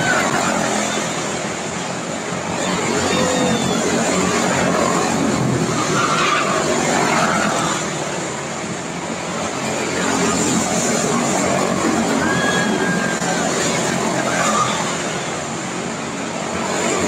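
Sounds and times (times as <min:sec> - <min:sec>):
race car engines buzzing: 0:00.0 - 0:17.0.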